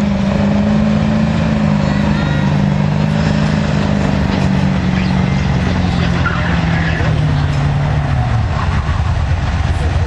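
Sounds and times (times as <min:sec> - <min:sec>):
pickup engine under full load: 0:00.0 - 0:10.0.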